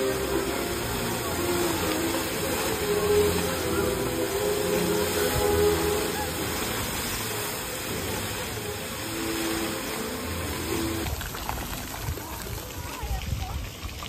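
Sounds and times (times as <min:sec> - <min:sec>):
fountain water rushing and splashing: 0:00.0 - 0:14.0.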